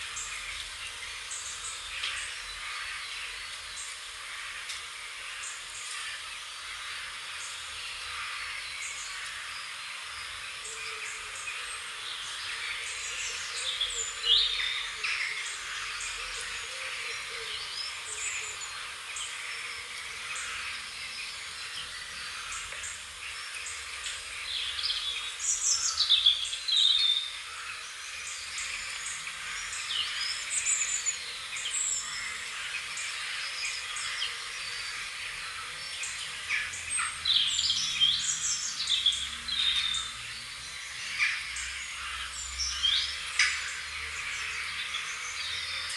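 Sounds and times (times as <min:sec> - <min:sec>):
birds chirping and singing: 0:00.0 - 0:45.9
steady high hiss: 0:00.0 - 0:45.9.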